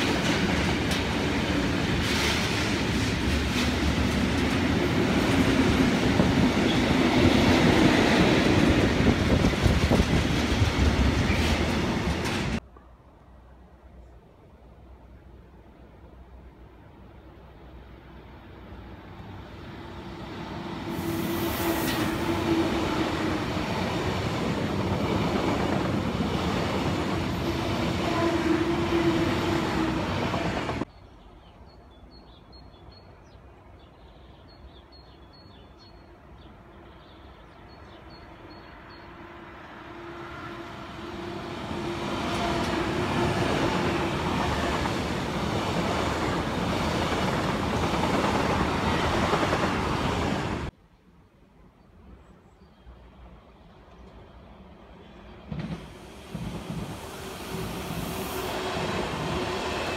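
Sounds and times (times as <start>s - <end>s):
electric train passing at speed: 0.0s - 14.0s, 14.8s - 30.9s, 37.5s - 50.8s, 52.9s - 59.9s.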